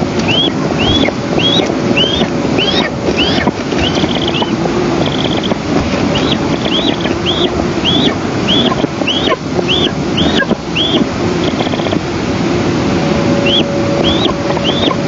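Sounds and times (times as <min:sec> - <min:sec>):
wind noise on microphone: 0:00.0 - 0:15.0
eagle chick begging chirps: 0:00.2 - 0:12.0, 0:13.4 - 0:15.0.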